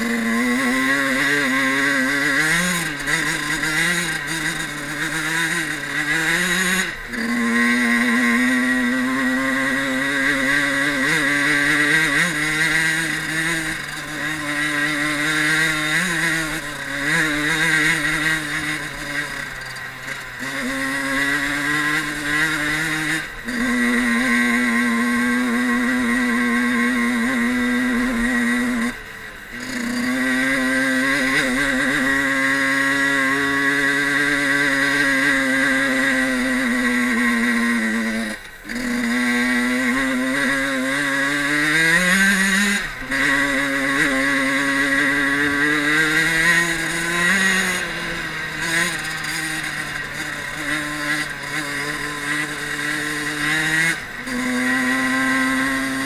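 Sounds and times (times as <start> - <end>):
two-stroke engine running hard: 0.0 - 56.0.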